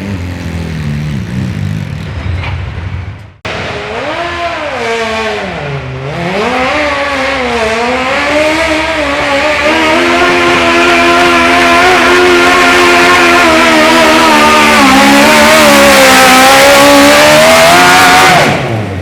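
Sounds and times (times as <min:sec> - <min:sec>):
garden tractor engine revving: 0:03.8 - 0:19.0.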